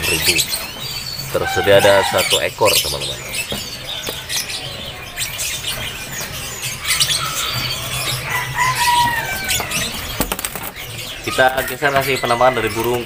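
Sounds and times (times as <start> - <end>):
birds chirping: 0.0 - 13.0
birds whistling: 0.0 - 13.0.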